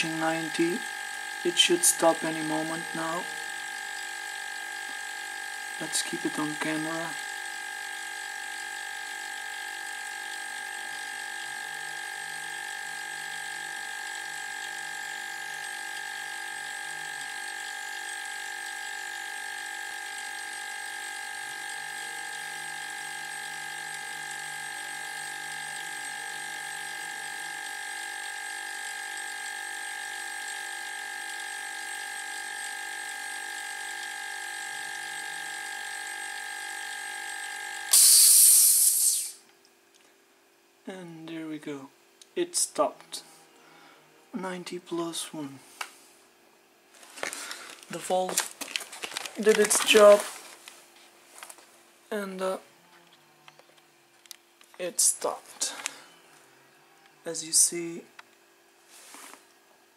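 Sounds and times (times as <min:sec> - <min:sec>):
refrigerator compressor humming: 0:00.0 - 0:59.9.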